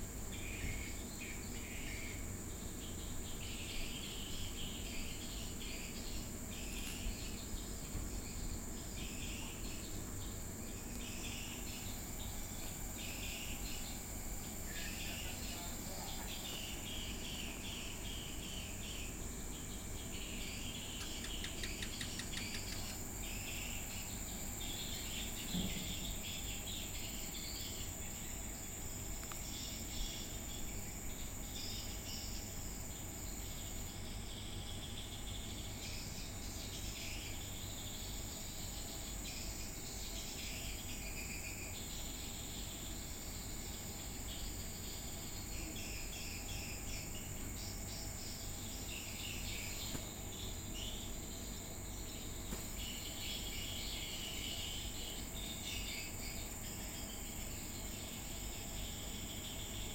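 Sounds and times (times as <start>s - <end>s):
insects trilling: 0.0s - 59.9s
irregular chirping: 0.2s - 59.9s.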